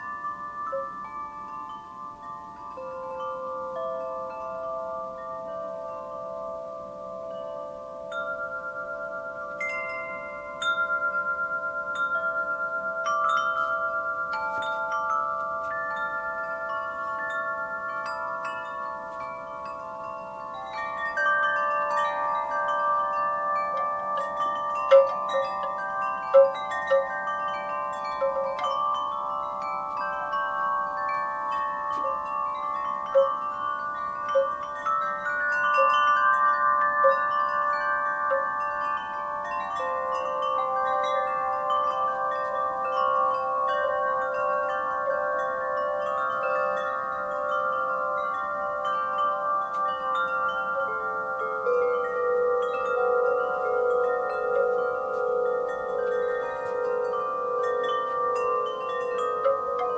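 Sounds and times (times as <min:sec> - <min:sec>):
wind chimes ringing: 0:00.0 - 0:59.9.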